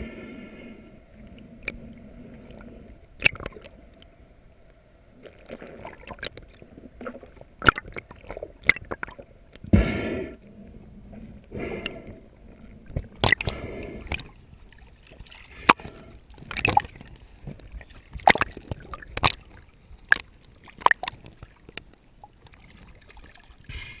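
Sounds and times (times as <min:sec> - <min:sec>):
water sloshing and gurgling: 0:00.0 - 0:24.0.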